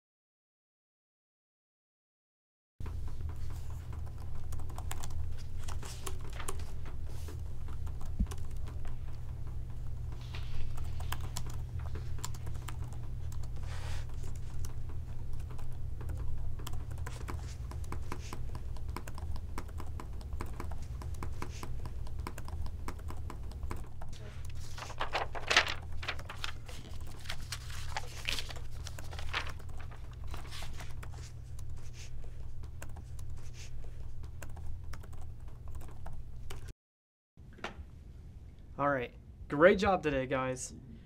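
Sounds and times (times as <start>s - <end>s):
steady low hum: 2.8s - 36.7s.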